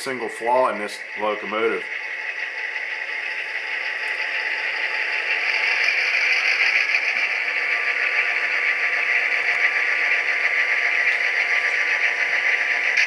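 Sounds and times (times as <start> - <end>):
diesel engine sound from small speaker: 0.0 - 13.0.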